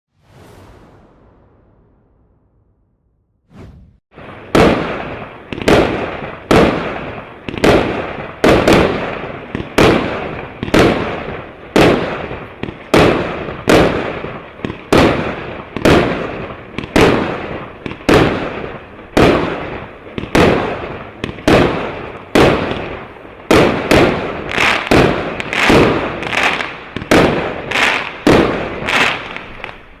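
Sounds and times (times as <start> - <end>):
firework bangs with hiss: 3.8 - 30.0.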